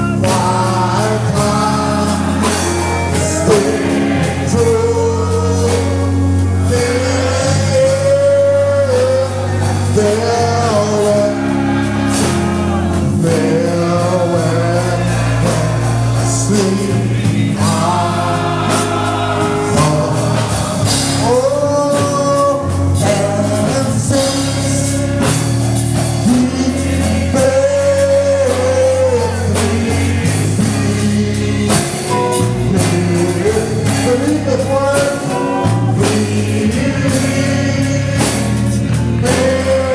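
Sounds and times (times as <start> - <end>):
congregation singing: 0.0 - 39.9
instrumental backing with bass: 0.0 - 39.9.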